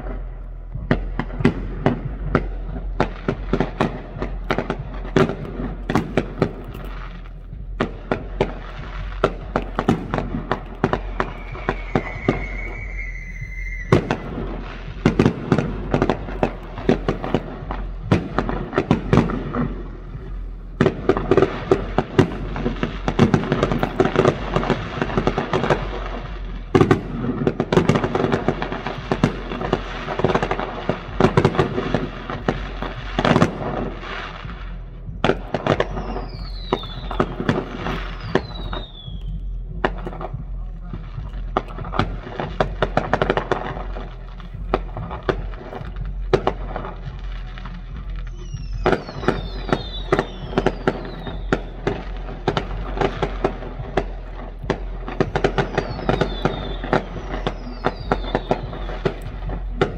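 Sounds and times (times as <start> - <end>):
firework whistle: 0.0 - 40.4, 41.2 - 59.9
fireworks bangs and crackles: 0.0 - 59.9.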